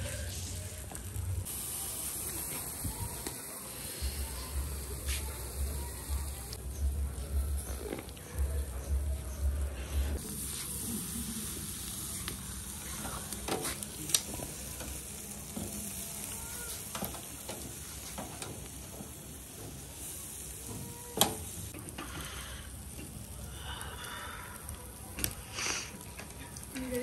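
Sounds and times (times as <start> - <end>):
chicken sizzling on grill: 0.0 - 27.0.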